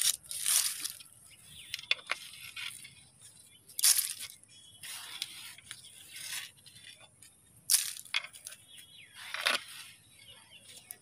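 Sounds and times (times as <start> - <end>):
dry leaves and weeds crackling: 0.0 - 11.0.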